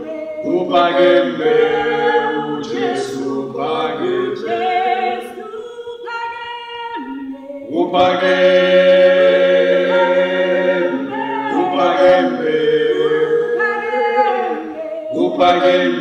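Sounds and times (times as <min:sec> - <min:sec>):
choir singing chant in harmony: 0:00.0 - 0:16.0.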